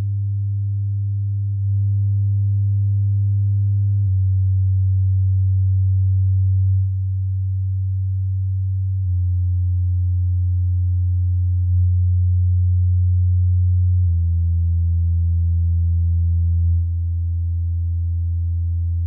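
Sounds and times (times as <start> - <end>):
low bass sine tone: 0.0 - 19.0.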